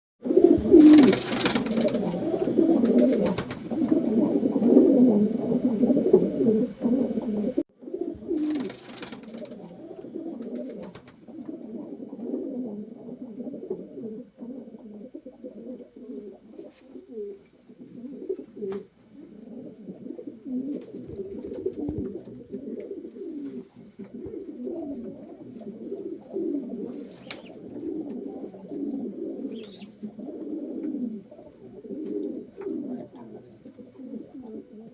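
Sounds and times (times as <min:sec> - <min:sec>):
pigeons cooing: 0:00.2 - 0:34.9.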